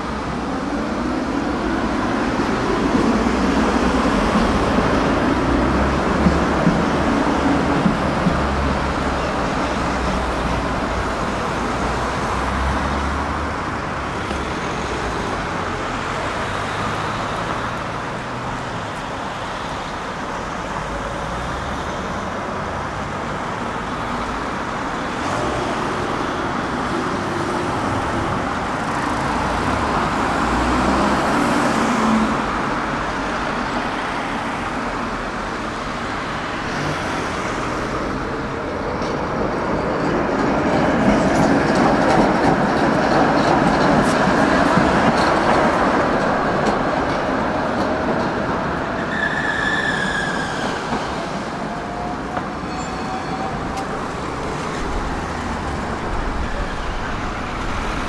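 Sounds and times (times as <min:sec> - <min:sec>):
cars passing: 0:00.0 - 0:58.0
road noise hum: 0:00.0 - 0:58.0.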